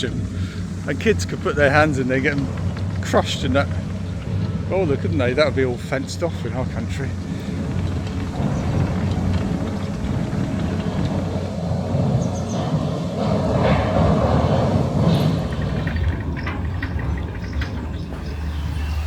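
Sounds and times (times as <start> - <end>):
cable haulage machinery rumble: 0.0 - 19.0.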